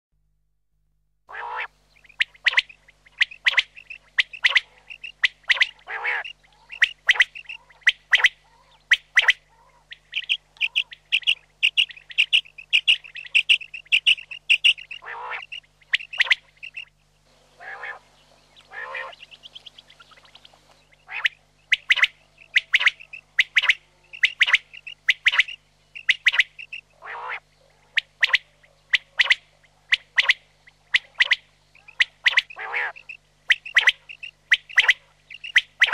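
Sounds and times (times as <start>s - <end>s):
quail calling: 1.3s - 35.9s.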